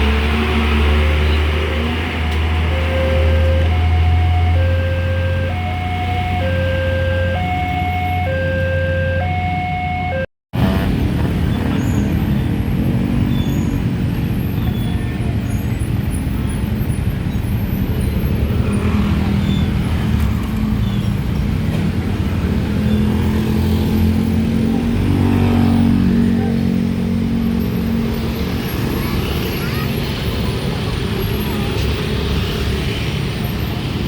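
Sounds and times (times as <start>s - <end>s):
diesel truck engines: 0.0s - 34.0s.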